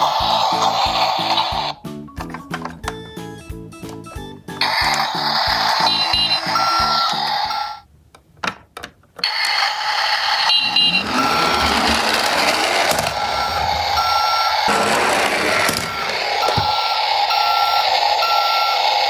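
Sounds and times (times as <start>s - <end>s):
toy truck electronic beeps: 0.0s - 3.1s, 4.2s - 7.8s, 9.2s - 19.0s.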